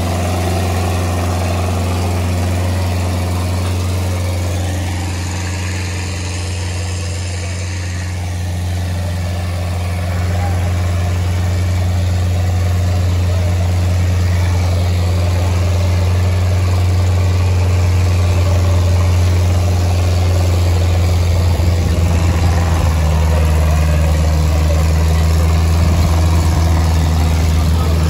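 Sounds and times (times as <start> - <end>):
tractor diesel engine droning: 0.0 - 28.0.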